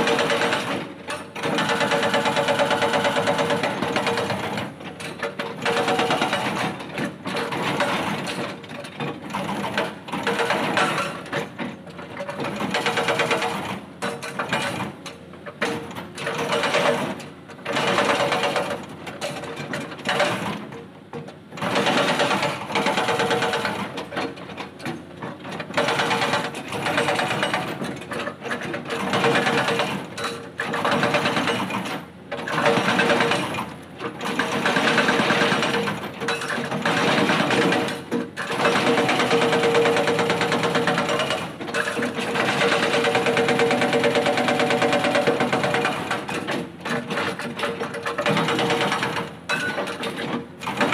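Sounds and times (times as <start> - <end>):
hydraulic rock breaker hammering: 0.0 - 50.9.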